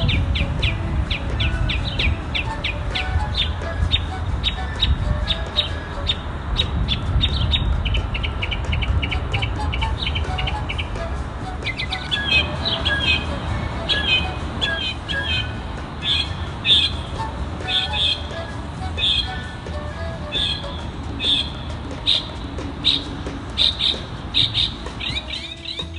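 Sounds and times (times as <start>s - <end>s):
mockingbird singing: 0.0s - 25.9s.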